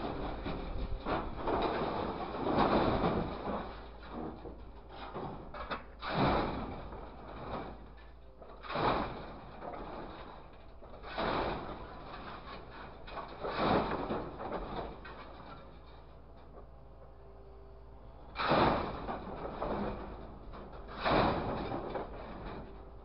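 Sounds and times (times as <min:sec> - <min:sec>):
scrap metal scraping and clattering: 0:00.0 - 0:16.6, 0:18.3 - 0:23.0.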